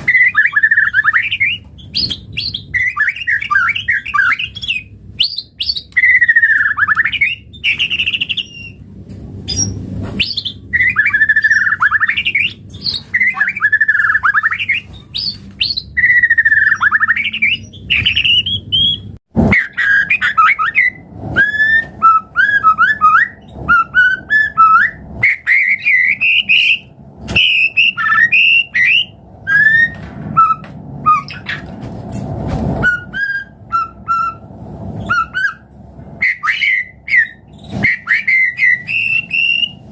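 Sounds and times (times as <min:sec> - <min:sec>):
bird singing whistled phrases: 0:00.0 - 0:08.8, 0:09.5 - 0:31.7, 0:32.8 - 0:34.4, 0:35.0 - 0:35.6, 0:36.2 - 0:39.9.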